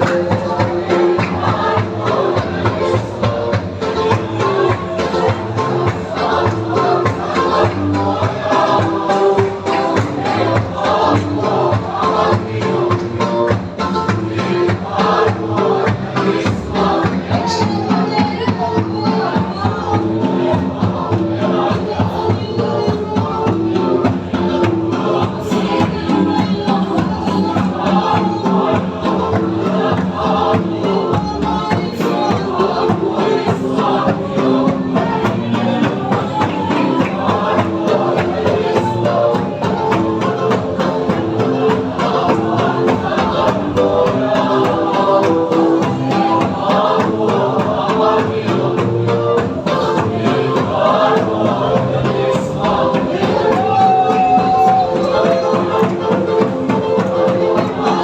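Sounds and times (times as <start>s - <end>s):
group singing a hymn: 0.0s - 58.0s
instrumental accompaniment: 0.0s - 58.0s.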